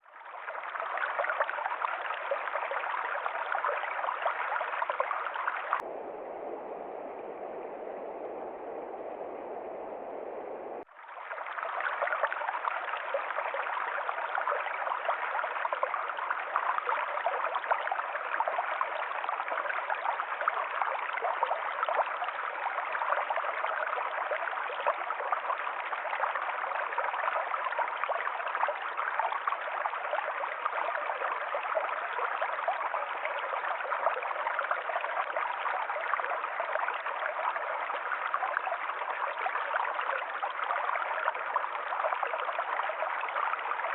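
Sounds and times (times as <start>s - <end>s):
stream flowing over rocks: 0.0s - 43.9s.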